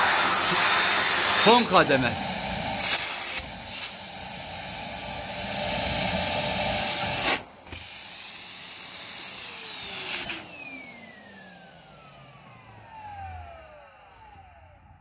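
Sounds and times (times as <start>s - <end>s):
vacuum cleaner running: 0.0s - 15.0s
vacuum motor spinning down: 0.0s - 15.0s.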